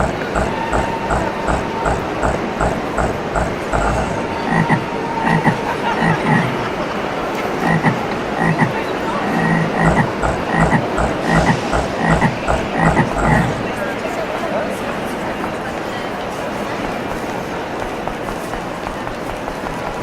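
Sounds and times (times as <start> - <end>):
frogs croaking: 0.0 - 14.0, 16.6 - 20.0
steady background noise: 0.0 - 20.0.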